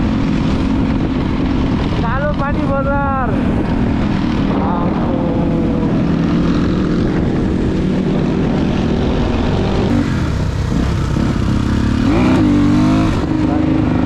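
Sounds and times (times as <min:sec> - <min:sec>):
dirt bike engine running: 0:00.0 - 0:14.0
wind rush: 0:00.0 - 0:14.0.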